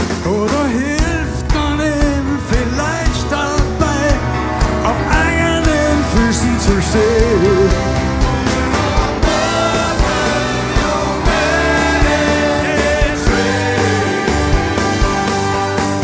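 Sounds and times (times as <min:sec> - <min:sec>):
person singing: 0:00.0 - 0:15.4
live rock band playing: 0:00.0 - 0:16.0.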